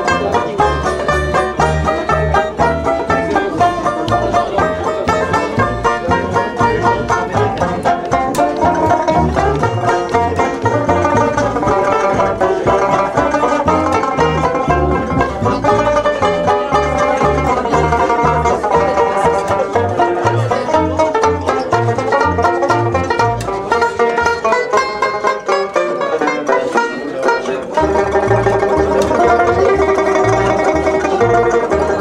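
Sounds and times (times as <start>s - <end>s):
banjos playing: 0.0s - 32.0s
plucked double bass: 0.0s - 32.0s.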